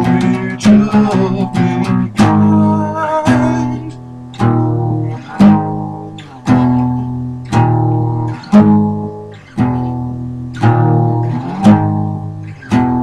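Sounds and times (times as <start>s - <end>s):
guitar strumming slow chords: 0.0s - 13.0s.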